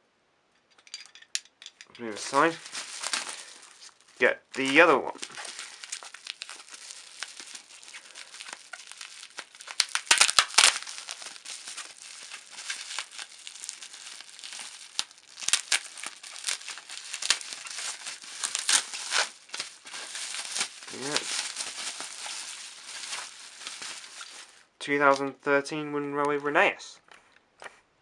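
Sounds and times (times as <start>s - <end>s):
plastic wrapping crinkling: 1.0s - 25.4s.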